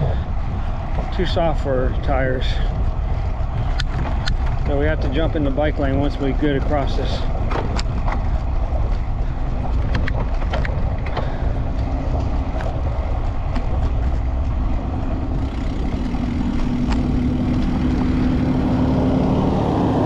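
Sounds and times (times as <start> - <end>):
highway traffic passing: 0.0 - 20.0
vehicle hum: 0.0 - 20.0
wind on microphone: 0.0 - 20.0.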